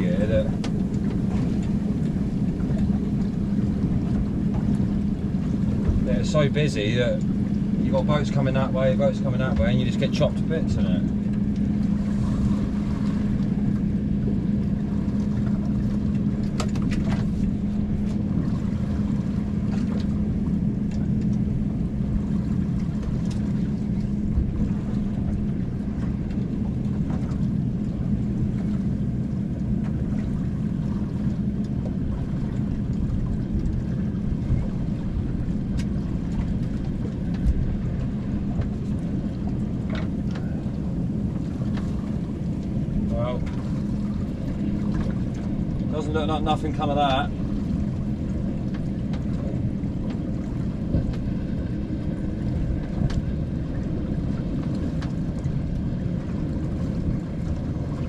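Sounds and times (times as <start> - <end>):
motorboat engine droning: 0.0 - 58.0
water and wind rumble: 0.0 - 58.0.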